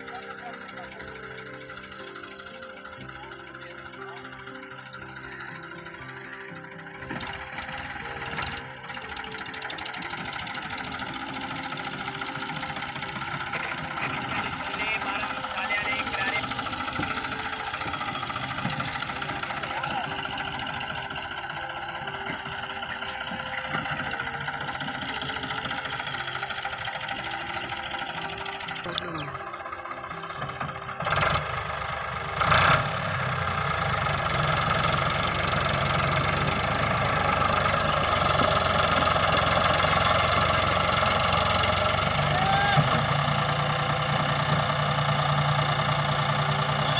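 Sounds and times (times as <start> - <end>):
tractor diesel engine knocking: 0.0 - 46.9.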